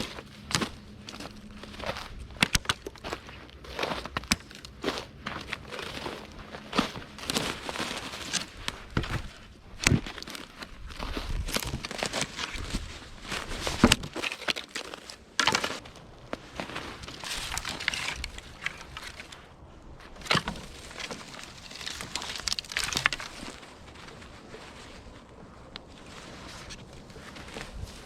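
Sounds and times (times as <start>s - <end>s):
dry wood cracking and snapping: 0.0s - 19.5s, 20.1s - 28.0s.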